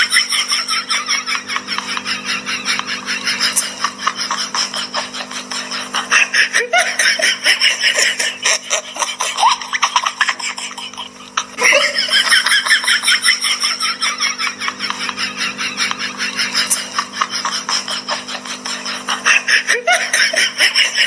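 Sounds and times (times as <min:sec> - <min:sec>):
high-pitched rapid laughter: 0:00.0 - 0:21.0
steady low hum: 0:00.0 - 0:21.0.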